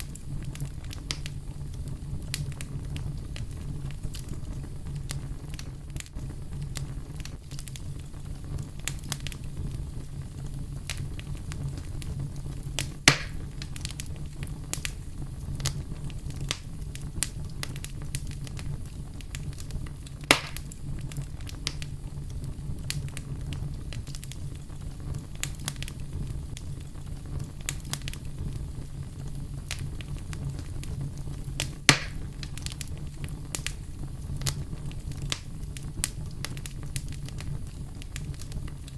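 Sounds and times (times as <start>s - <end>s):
fire pops: 0.0s - 38.9s
wood fire crackling: 0.0s - 38.9s.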